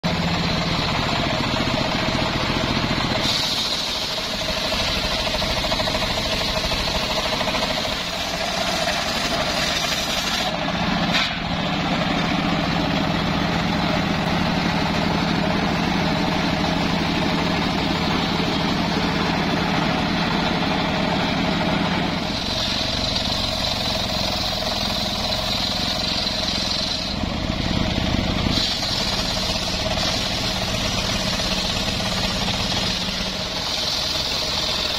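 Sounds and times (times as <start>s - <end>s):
circular sawmill cutting log: 0.0s - 34.9s.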